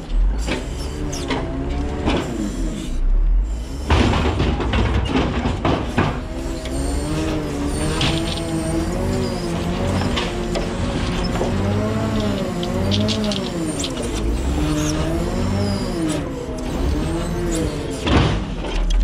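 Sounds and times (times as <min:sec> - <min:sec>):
truck engine and hydraulics: 0:00.0 - 0:19.0.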